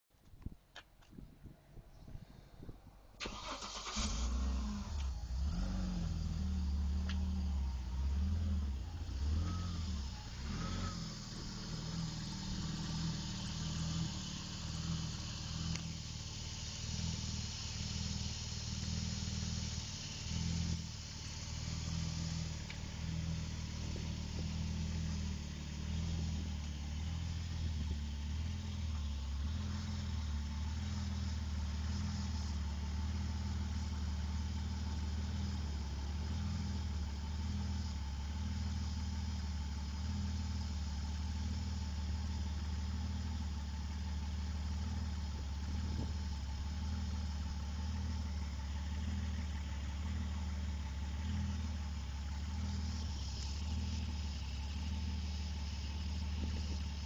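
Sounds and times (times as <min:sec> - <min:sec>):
car engine starting and idling: 0:02.9 - 0:57.0.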